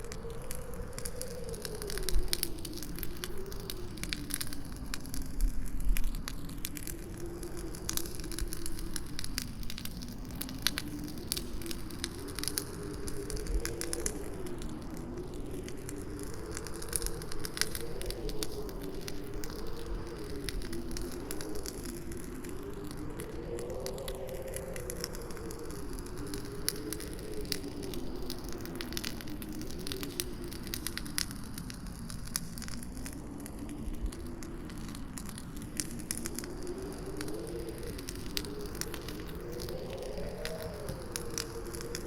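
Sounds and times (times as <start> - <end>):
campfire crackling and popping: 0.0 - 42.0
howling wind: 0.0 - 42.0.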